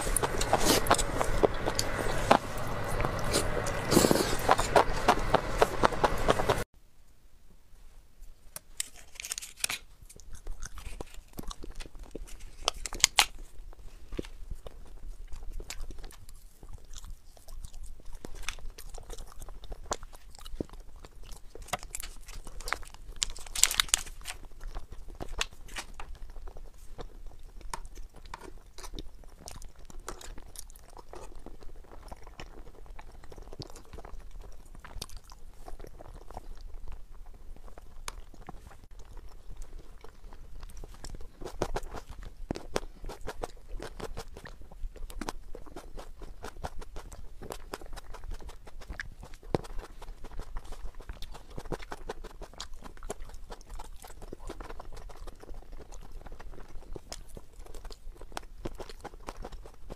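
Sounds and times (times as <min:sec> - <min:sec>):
chewing with wet mouth clicks: 0:00.0 - 0:06.6, 0:10.0 - 0:59.9.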